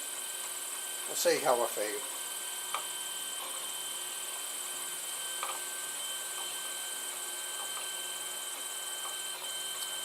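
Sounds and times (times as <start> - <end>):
three d printer humming: 0.0 - 10.0.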